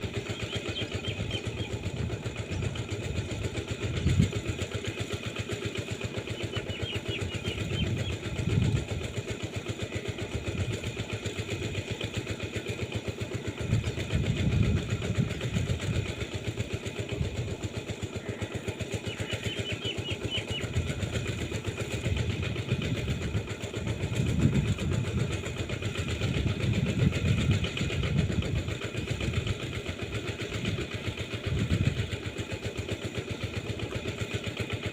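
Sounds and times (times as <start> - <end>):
engine running steadily: 0.0 - 34.9.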